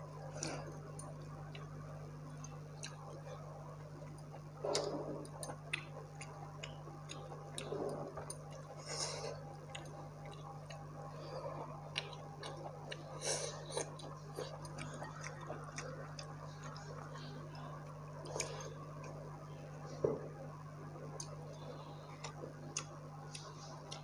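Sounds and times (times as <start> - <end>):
low electrical hum: 0.0 - 24.0
person chewing: 0.3 - 3.4, 4.0 - 19.3, 21.1 - 24.0.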